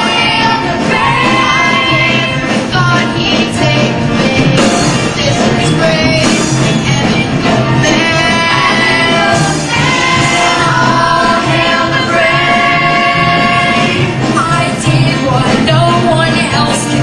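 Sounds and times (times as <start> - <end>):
band playing steady beat: 0.0 - 17.0
group singing: 0.0 - 17.0.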